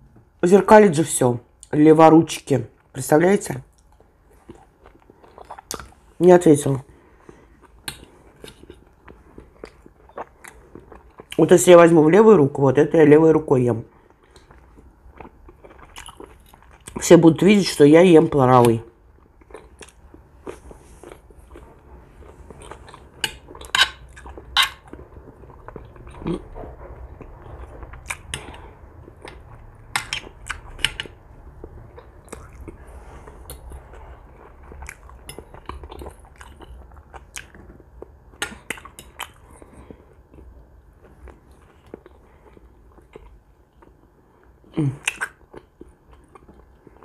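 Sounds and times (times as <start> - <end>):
close chewing and biting: 3.8 - 6.0, 7.2 - 11.4, 14.0 - 17.0, 18.6 - 47.0.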